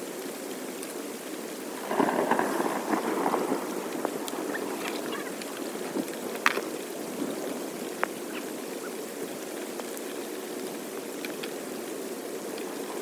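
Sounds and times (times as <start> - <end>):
floodwater flowing: 0.0 - 13.0.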